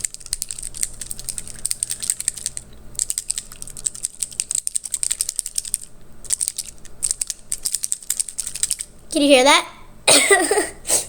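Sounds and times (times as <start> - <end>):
hard candy rattling in bottle: 0.0 - 8.9.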